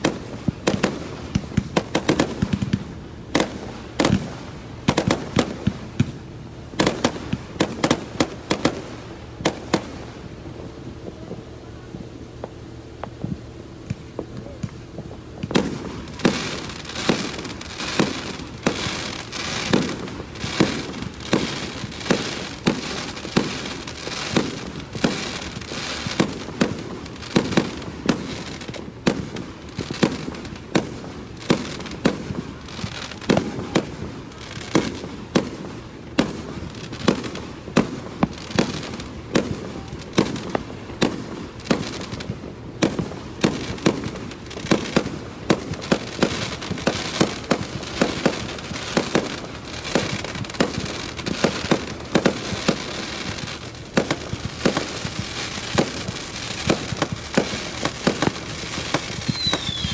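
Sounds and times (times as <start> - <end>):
continuous fireworks crackle: 0.0 - 59.9
fireworks bursting with sharp bangs: 0.0 - 59.9.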